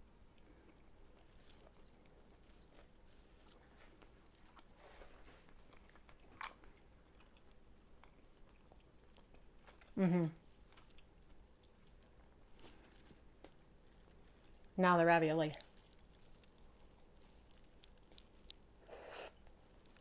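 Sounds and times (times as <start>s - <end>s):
person chewing food: 0.2s - 14.8s, 15.5s - 20.0s.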